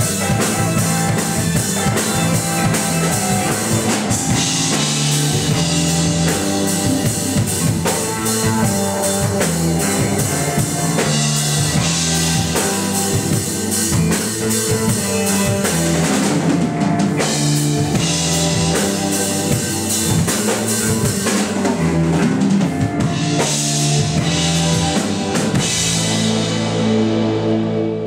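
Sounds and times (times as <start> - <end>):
drum kit with cymbals: 0.0 - 28.0
live rock band playing: 0.0 - 28.0.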